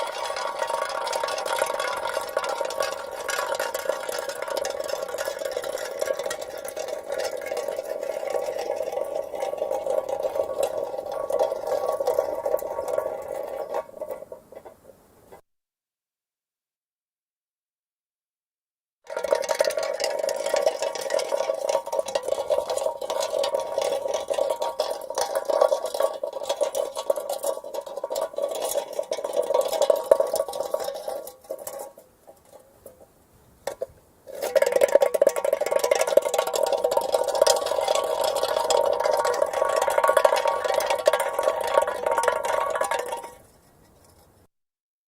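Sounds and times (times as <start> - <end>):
metal can rolling on asphalt: 0.0 - 15.4, 19.0 - 44.5.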